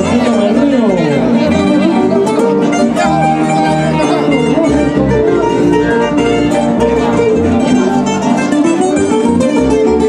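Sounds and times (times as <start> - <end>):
plucked string music: 0.0 - 10.0.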